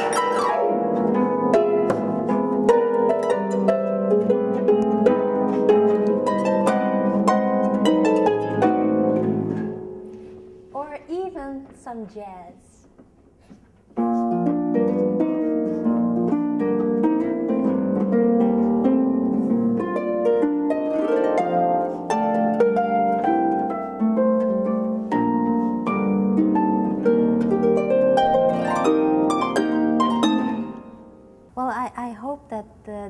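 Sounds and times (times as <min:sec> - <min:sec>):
harp playing jazz: 0:00.0 - 0:10.7, 0:14.0 - 0:31.4.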